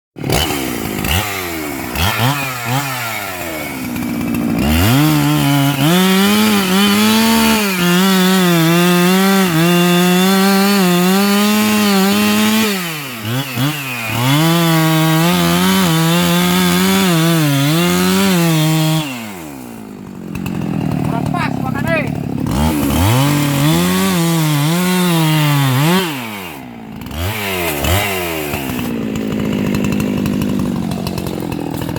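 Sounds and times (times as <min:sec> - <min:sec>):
chainsaw revving and cutting wood: 0:00.2 - 0:31.9.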